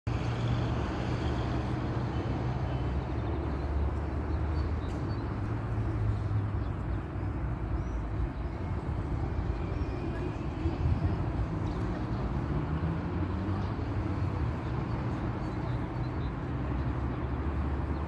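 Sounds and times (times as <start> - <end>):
distant road traffic rumble: 0.1 - 18.0.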